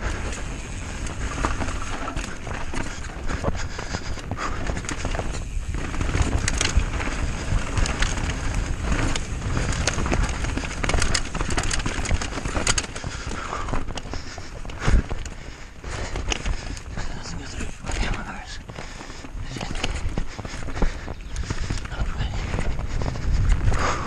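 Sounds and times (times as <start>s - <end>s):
bike rattling and knocking: 0.0s - 24.0s
wind rumble on microphone: 0.0s - 24.0s.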